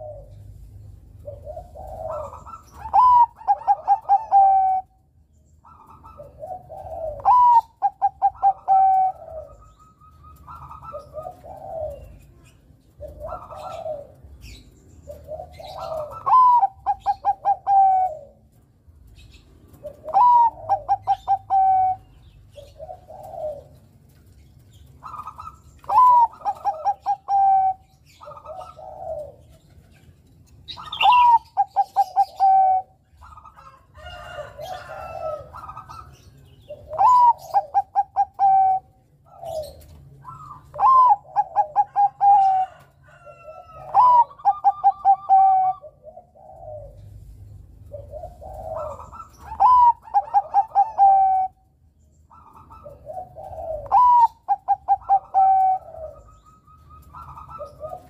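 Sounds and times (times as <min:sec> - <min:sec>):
dove cooing song: 0:00.0 - 0:58.0.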